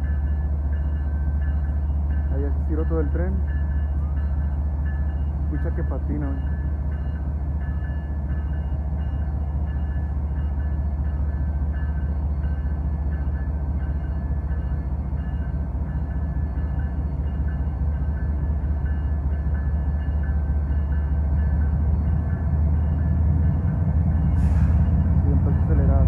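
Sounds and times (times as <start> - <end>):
locomotive engine drone: 0.0 - 26.0.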